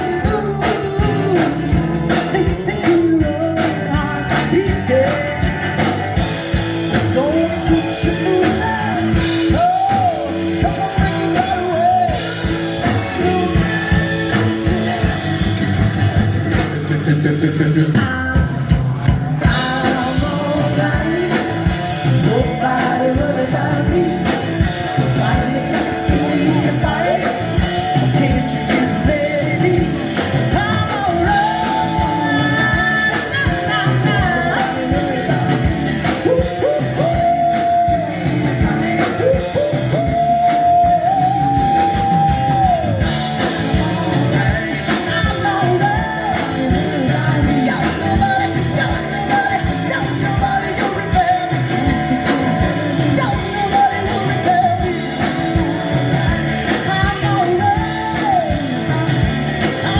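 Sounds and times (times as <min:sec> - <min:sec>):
lead vocals singing: 0:00.0 - 0:59.9
rock band playing: 0:00.0 - 0:59.9.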